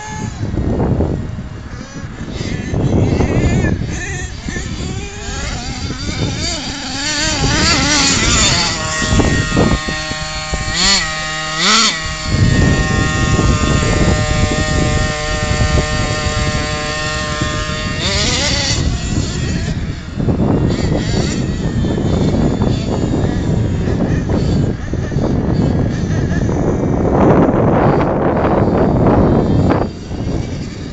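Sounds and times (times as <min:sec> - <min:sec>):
small nitro engine idling and revving: 0:00.0 - 0:30.9.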